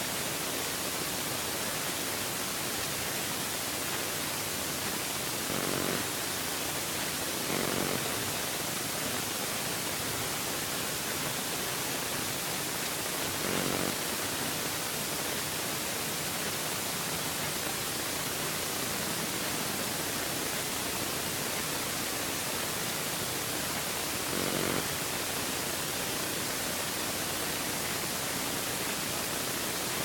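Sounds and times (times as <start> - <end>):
static hiss: 0.0 - 30.0.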